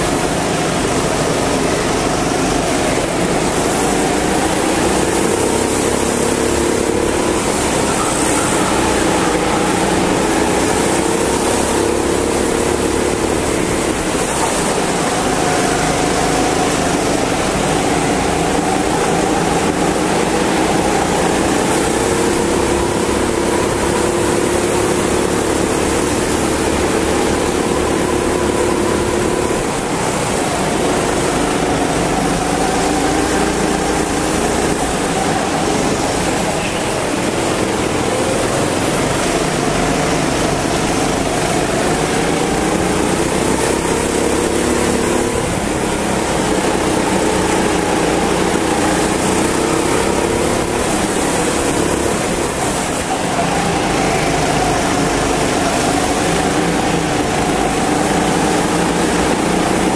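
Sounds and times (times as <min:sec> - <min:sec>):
go-kart engine running hard: 0:00.0 - 0:59.9
steady hiss: 0:00.0 - 0:59.9.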